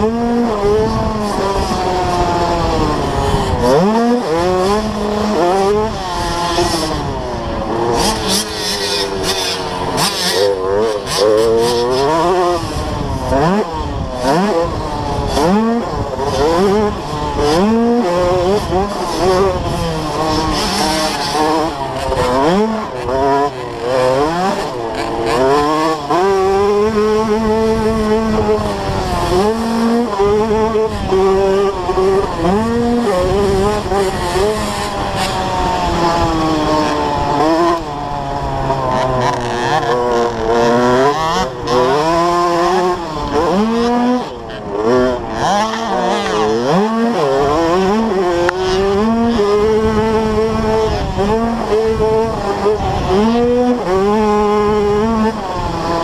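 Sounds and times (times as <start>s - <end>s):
two-stroke motorcycle engine revving: 0.0s - 56.0s
wind rushing over microphone: 0.0s - 56.0s.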